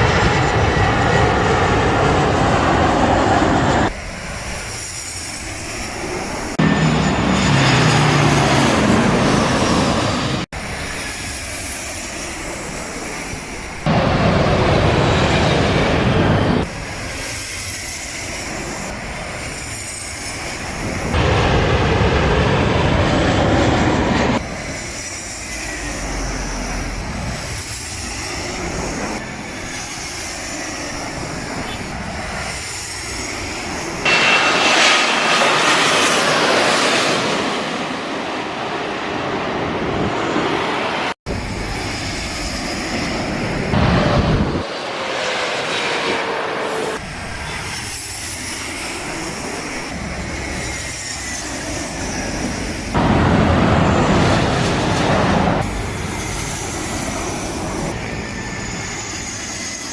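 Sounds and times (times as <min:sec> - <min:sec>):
jet engine whine: 0:00.0 - 0:59.9
jet engines rushing: 0:00.0 - 0:59.9.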